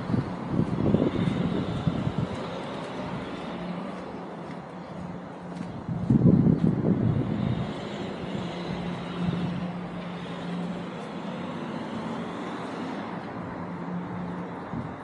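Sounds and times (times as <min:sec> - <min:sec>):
motor vehicle running: 0:00.0 - 0:15.0.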